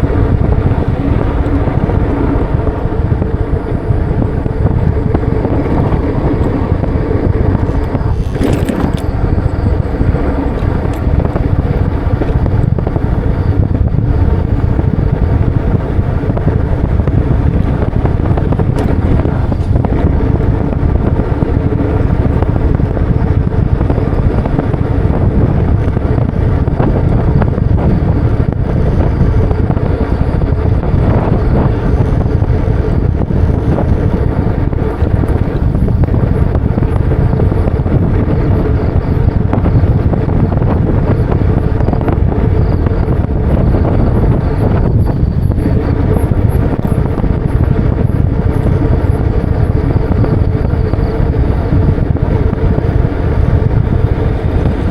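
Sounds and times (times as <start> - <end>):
faint hum: 0.0 - 54.9
wind buffeting microphone: 0.0 - 54.9.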